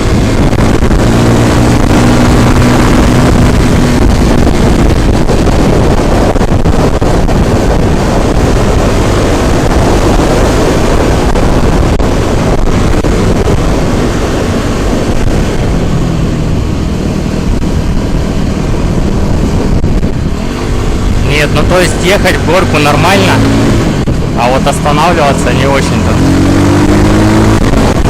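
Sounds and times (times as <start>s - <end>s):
motorbike engine running: 0.0s - 28.0s
wind buffeting microphone: 0.0s - 28.0s.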